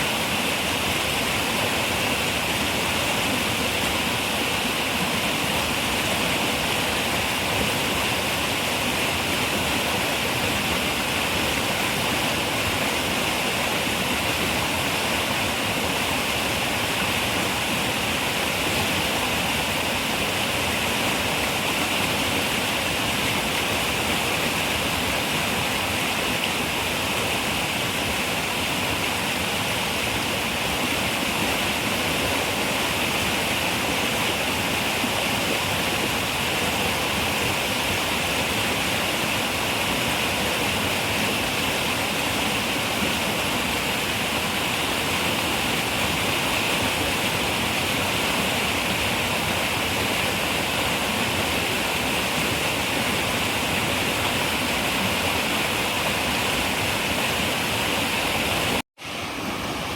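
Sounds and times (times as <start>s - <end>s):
river water running over rocks: 0.0s - 59.9s.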